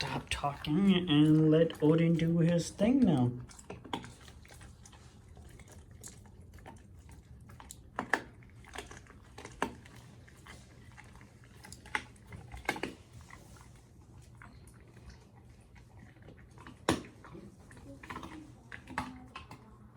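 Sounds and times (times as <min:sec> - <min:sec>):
dog gnawing bone: 0:00.0 - 0:19.9.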